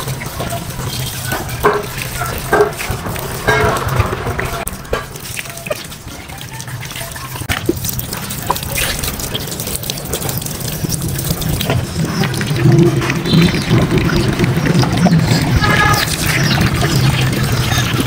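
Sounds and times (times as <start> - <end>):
hose water splashing: 0.0 - 18.0
water dripping and trickling: 0.0 - 18.0.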